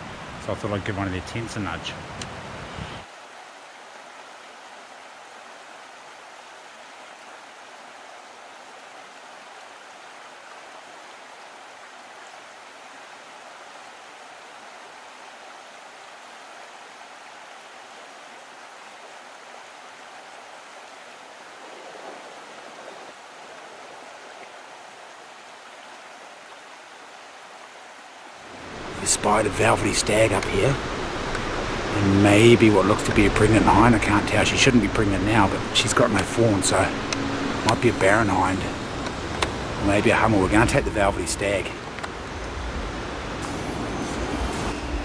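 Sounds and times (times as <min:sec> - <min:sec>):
river flowing over stones: 0:00.0 - 0:45.0.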